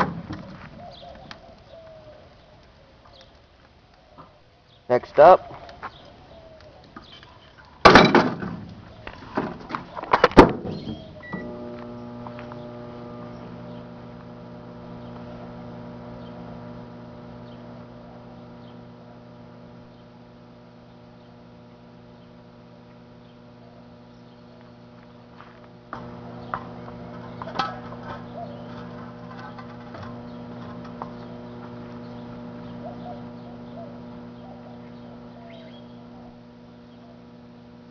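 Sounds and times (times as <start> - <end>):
microwave oven humming: 5.2 - 37.9.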